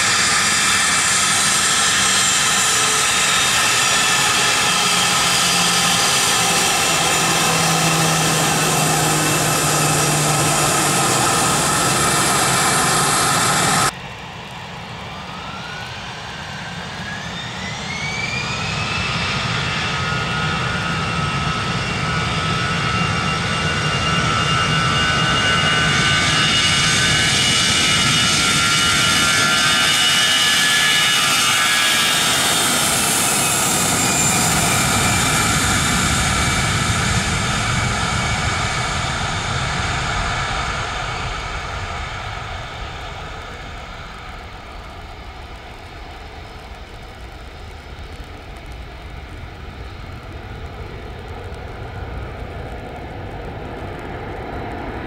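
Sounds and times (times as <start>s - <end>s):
jet engines roaring: 0.0s - 55.0s
jet engines spooling up whine: 0.0s - 55.0s.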